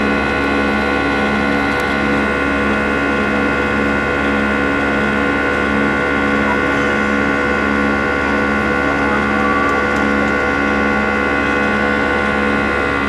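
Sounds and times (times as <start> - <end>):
humming and whining tones: 0.0 - 13.0
jet engines droning: 0.0 - 13.0.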